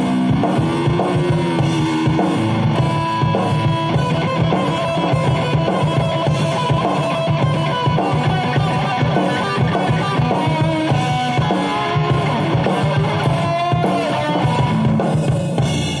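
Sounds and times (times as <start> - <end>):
drum beat: 0.0 - 16.0
electric guitar lead with bends: 0.0 - 16.0.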